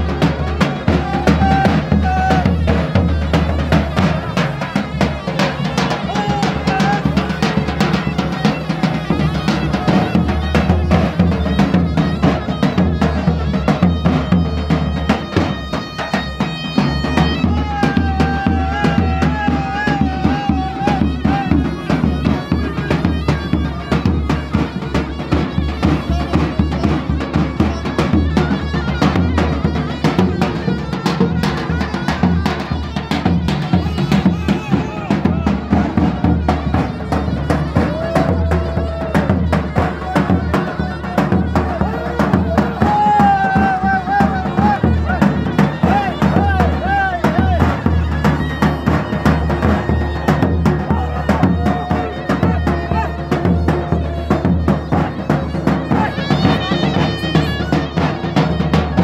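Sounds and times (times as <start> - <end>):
large drum beating: 0.0 - 59.0
shrill reed melody: 0.0 - 59.0.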